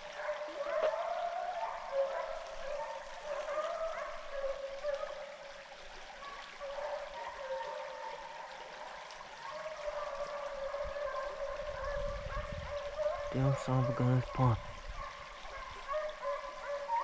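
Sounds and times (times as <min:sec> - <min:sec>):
creek trickling: 0:00.0 - 0:17.0
distant hounds baying: 0:00.0 - 0:17.0.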